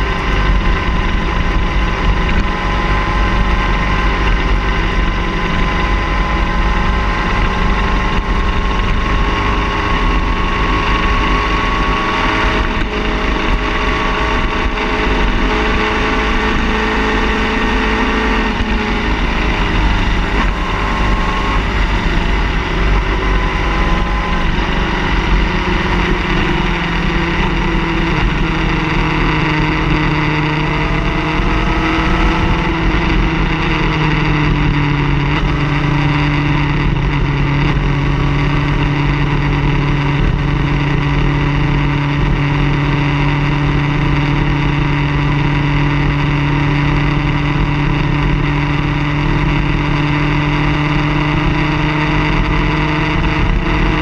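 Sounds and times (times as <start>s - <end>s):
car engine droning: 0.0s - 54.0s
road noise: 0.0s - 54.0s.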